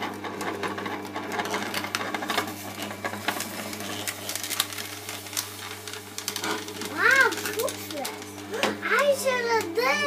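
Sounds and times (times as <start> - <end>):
frozen fruit crunching and clicking: 0.0 - 10.0
juicer motor humming: 0.0 - 10.0.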